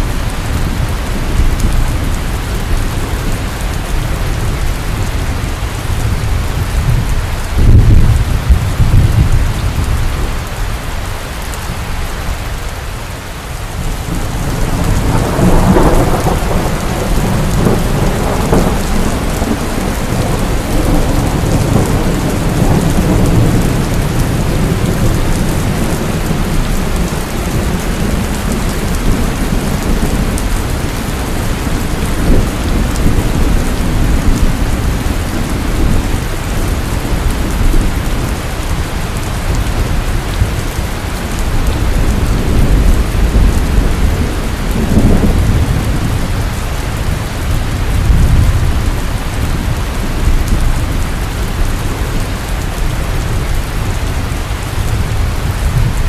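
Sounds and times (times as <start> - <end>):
thunder rumbling: 0.0 - 10.6, 13.5 - 56.0
heavy rain: 0.0 - 56.0.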